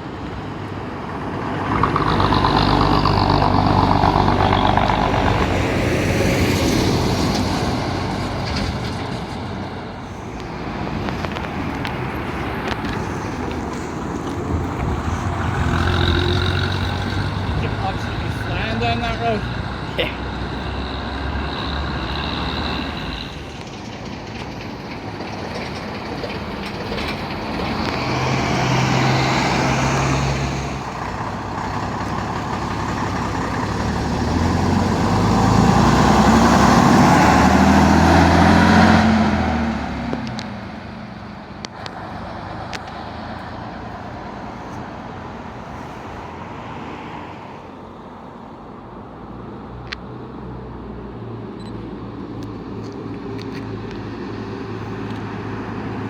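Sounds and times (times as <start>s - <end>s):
bus engine passing by: 0.0s - 56.0s.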